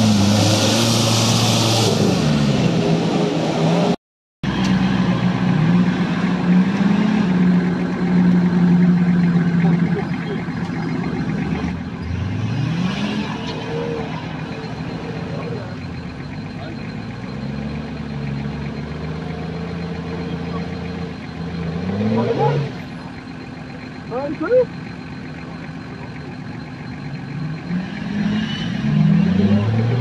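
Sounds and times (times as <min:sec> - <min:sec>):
off-road vehicle engines under load: 0:00.0 - 0:30.0.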